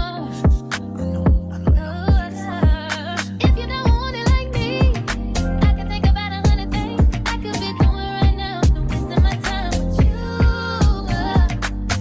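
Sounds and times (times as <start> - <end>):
song with vocals and beat: 0.0 - 12.0.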